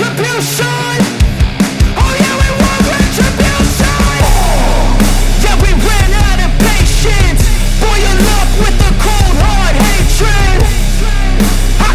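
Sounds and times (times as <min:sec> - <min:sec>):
driving drum beat: 0:00.0 - 0:11.9
rock music: 0:00.0 - 0:11.9
heavy steady bass: 0:00.2 - 0:11.9.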